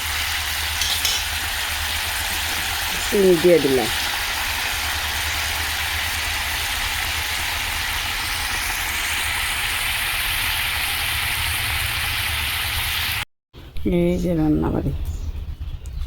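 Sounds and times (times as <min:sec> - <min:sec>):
curry sizzling in hot oil: 0:00.0 - 0:13.2.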